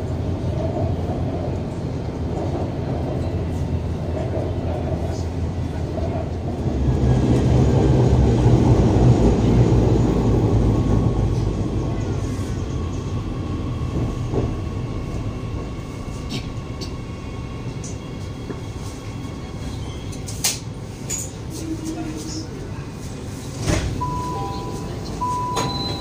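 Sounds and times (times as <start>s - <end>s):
metro train interior rumble: 0.0s - 26.0s.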